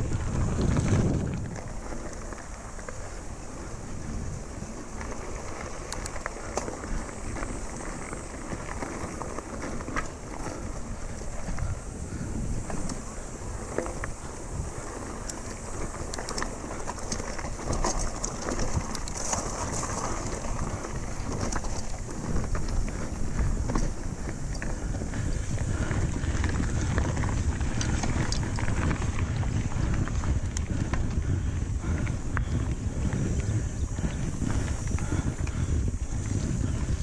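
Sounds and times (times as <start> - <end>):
bike and stones rattling: 0.0 - 37.0
bike tyres rumbling on gravel: 0.0 - 37.0
wind noise on microphone: 0.0 - 37.0.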